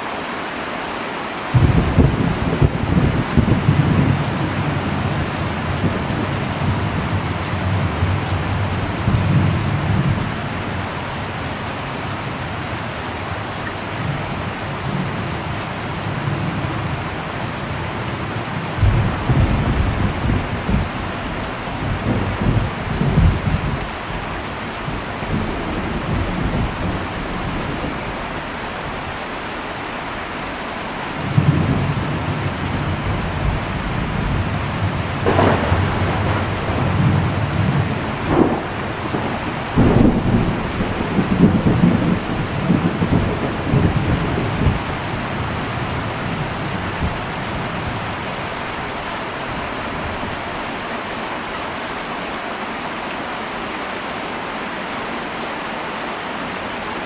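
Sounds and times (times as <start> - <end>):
heavy rain on a metal roof: 0.0 - 57.0
low thunder rolls: 1.6 - 13.3, 14.0 - 29.4, 31.2 - 50.5.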